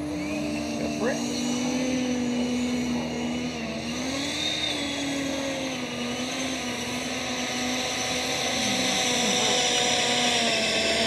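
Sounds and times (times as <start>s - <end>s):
electric ducted fan whine: 0.0s - 11.0s.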